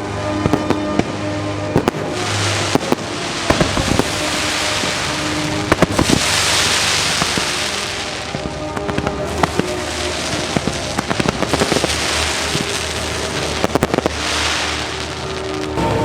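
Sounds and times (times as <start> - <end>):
fireworks crackling pops: 0.0 - 15.8
fizzing hissing crackle: 0.0 - 15.8
fireworks bangs: 0.0 - 16.0
music soundtrack: 0.0 - 16.0.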